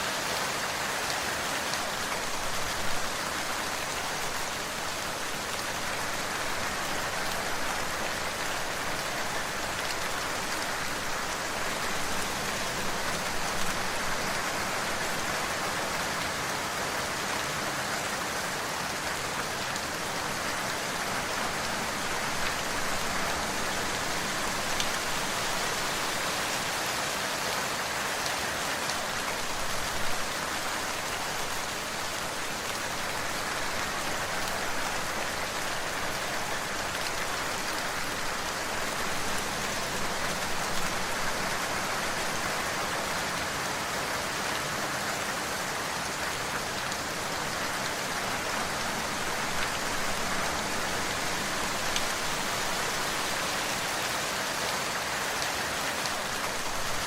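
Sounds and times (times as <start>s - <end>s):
louder raindrops: 0.0s - 57.0s
steady rain falling: 0.0s - 57.0s.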